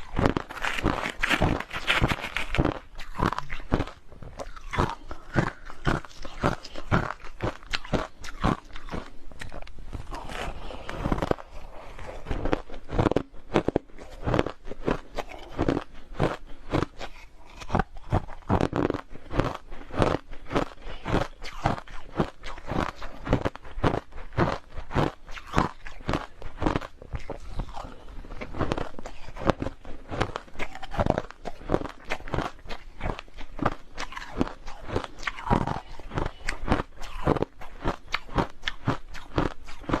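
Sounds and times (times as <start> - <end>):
chewing crushed ice: 0.0 - 40.0.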